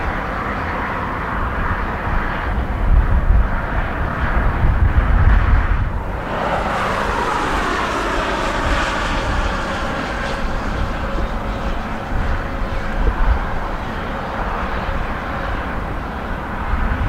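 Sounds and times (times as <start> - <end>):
jet engines roaring: 0.0 - 17.0
multi-tone engine whine: 0.0 - 17.0
wind buffeting microphone: 0.0 - 17.0.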